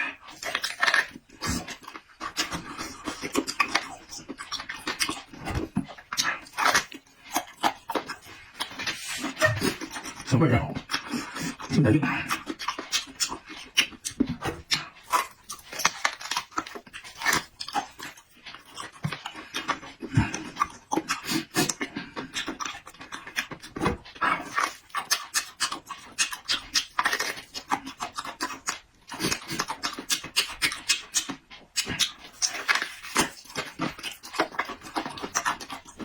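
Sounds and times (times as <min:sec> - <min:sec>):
wet chewing and smacking: 0:00.0 - 0:36.0.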